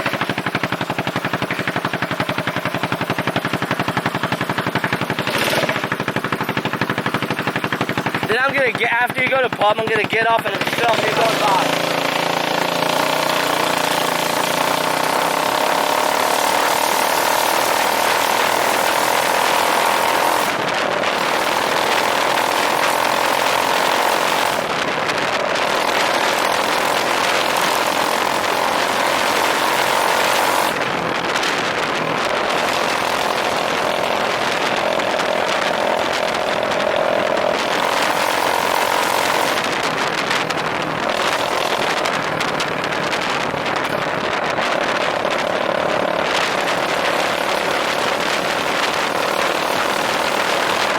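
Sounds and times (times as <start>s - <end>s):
scooter engine running loud: 0.0s - 50.9s.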